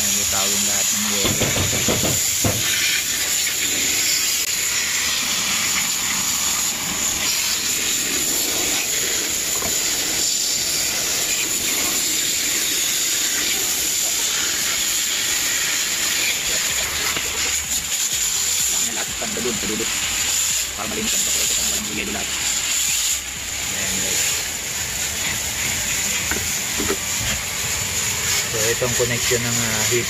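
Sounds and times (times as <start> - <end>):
hose spraying water on metal: 0.0 - 30.0.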